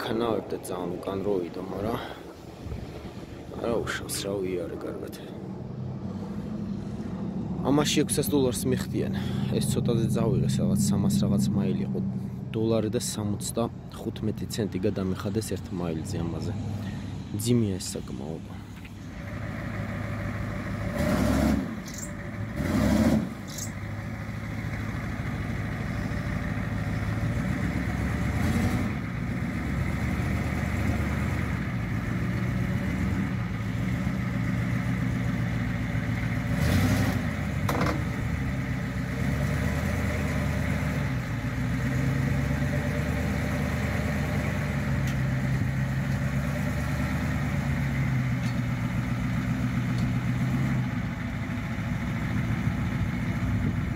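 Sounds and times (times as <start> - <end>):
truck engine idling: 0.0 - 21.1, 21.7 - 36.6, 37.2 - 53.9.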